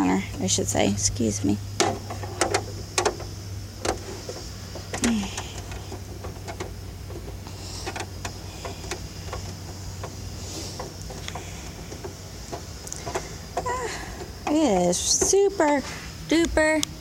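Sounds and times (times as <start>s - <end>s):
steady low hum: 0.0s - 17.0s
light clicks and knocks: 1.8s - 16.6s.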